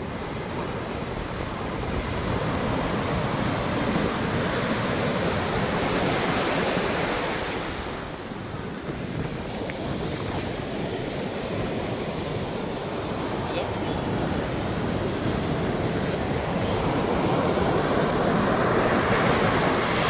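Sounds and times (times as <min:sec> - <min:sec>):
sea surf on a beach: 0:00.0 - 0:20.0.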